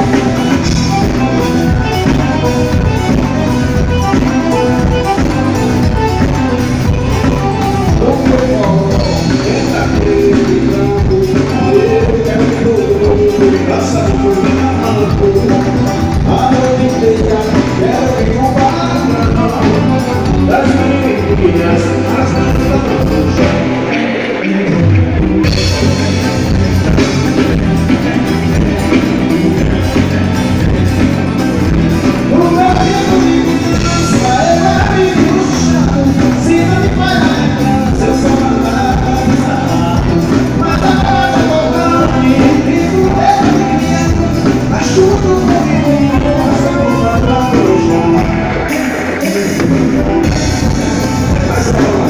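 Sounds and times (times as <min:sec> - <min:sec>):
live band playing: 0:00.0 - 0:52.0
person singing: 0:00.0 - 0:52.0.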